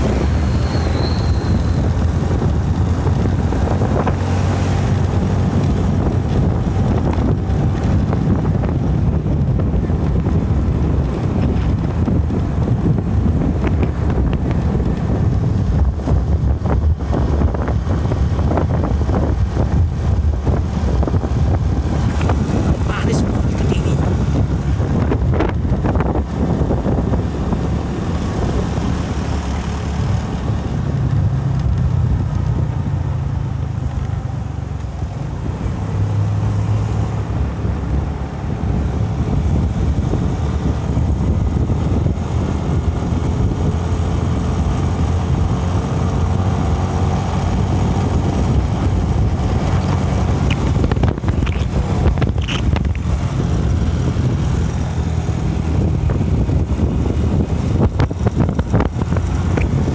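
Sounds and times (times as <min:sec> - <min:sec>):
motorcycle engine running: 0:00.0 - 0:35.8, 0:37.1 - 0:59.9
passing cars: 0:00.0 - 0:59.9
wind buffeting microphone: 0:00.0 - 0:59.9.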